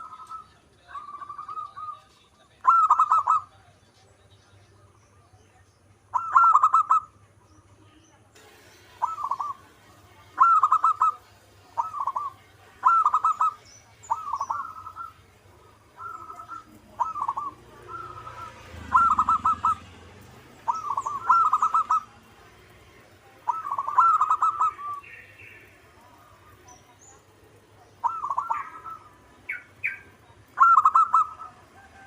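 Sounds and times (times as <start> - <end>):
doves cooing: 0.0 - 3.6, 6.1 - 7.2, 8.6 - 32.0.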